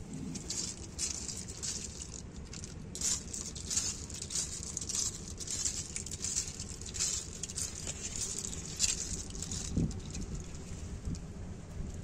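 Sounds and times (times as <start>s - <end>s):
low steady background noise: 0.0s - 12.0s
snail shells clattering: 0.2s - 11.2s.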